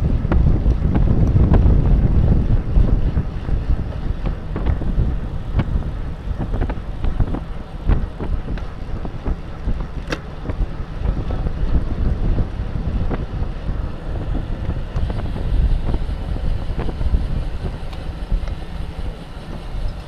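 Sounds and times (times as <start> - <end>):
bike clicking: 0.0 - 20.0
tyre and road noise: 0.0 - 20.0
wind buffeting microphone: 0.0 - 20.0.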